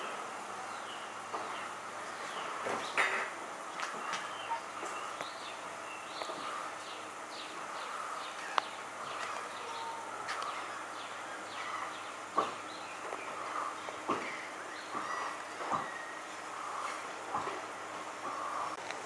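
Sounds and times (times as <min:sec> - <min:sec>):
birds chirping: 0:00.0 - 0:18.9
outdoor background noise: 0:00.0 - 0:19.0.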